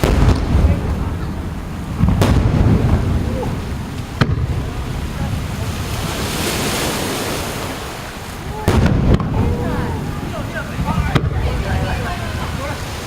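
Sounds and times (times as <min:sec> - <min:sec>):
firework shells bursting: 0:00.0 - 0:06.2, 0:07.5 - 0:11.8.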